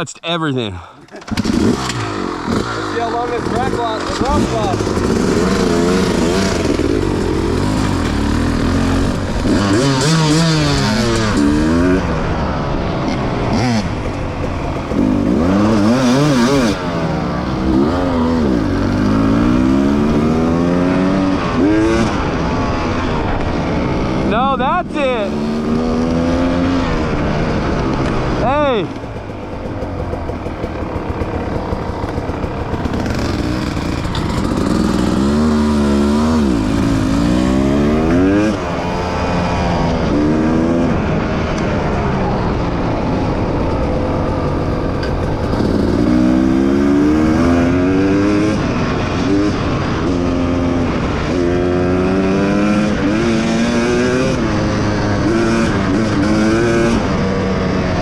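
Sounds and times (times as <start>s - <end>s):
dirt bike engine revving: 1.1s - 58.0s.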